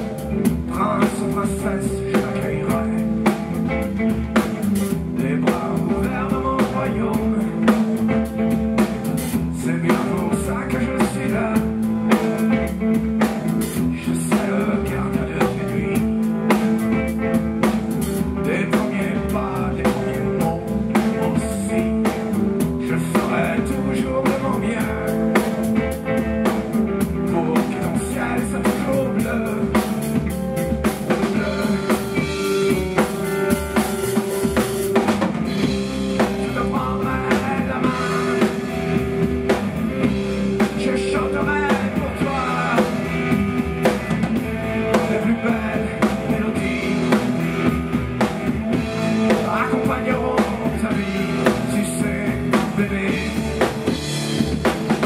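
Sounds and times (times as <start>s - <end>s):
drum kit beat: 0.0s - 55.0s
electric bass: 0.0s - 55.0s
electric guitars: 0.0s - 55.0s.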